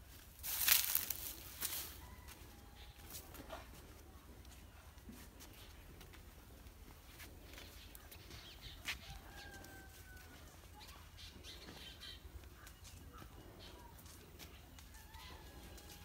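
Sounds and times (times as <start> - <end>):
chickens and birds calling: 0.4 - 16.0.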